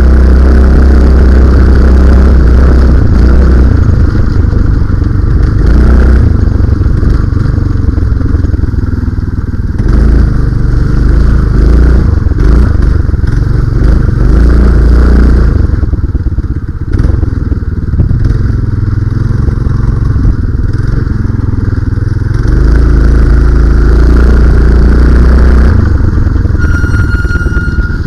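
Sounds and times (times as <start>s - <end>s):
minibike engine running under load: 0.0s - 28.0s.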